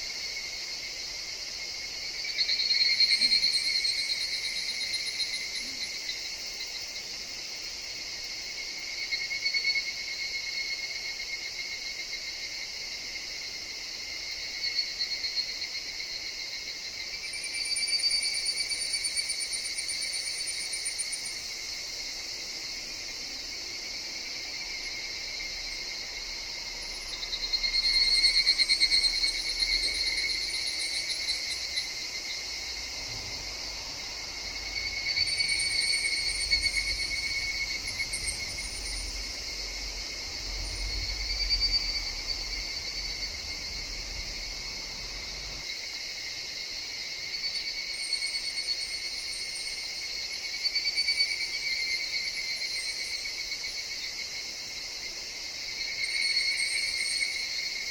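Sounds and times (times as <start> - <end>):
background insect song: 0.0 - 57.9
cicadas calling in chorus: 0.0 - 57.9
high insect trill: 0.0 - 57.9.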